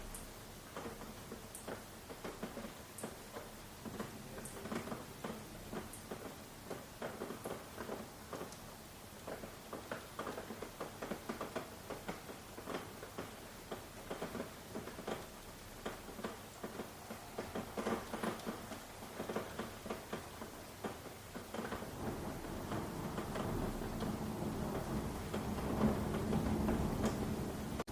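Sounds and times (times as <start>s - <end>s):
faint steady hiss: 0.0s - 27.9s
raindrops pattering: 0.0s - 27.9s.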